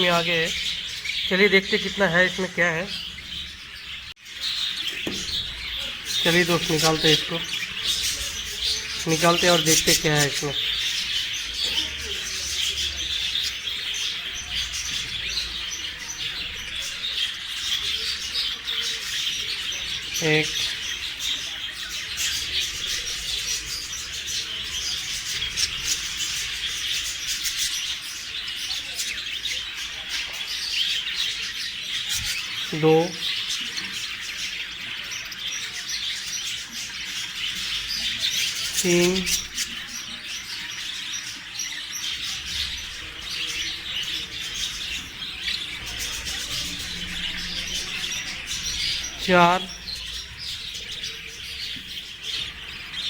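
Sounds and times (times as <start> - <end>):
budgies chattering: 0.0 - 53.0.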